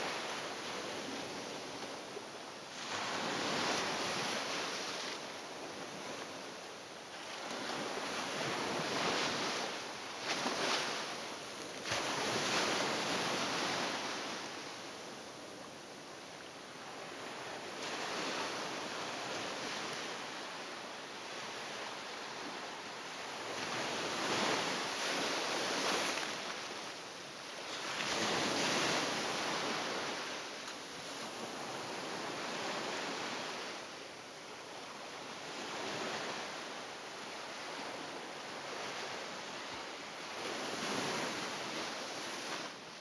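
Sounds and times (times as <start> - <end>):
waves breaking on a sandy beach: 0.0 - 43.0.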